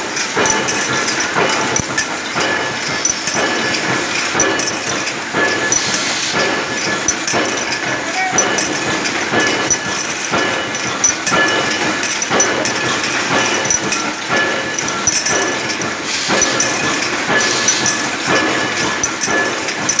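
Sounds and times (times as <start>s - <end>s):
can trimming machine clattering: 0.0s - 20.0s.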